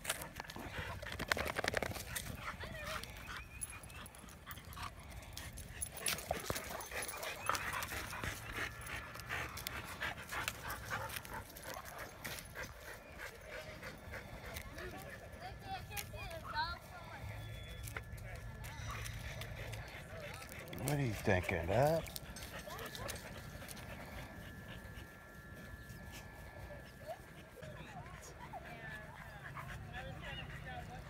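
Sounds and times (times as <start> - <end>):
rustles of movement: 0.0 - 29.9
dogs panting: 0.0 - 31.0
dogs whimpering: 0.0 - 31.0.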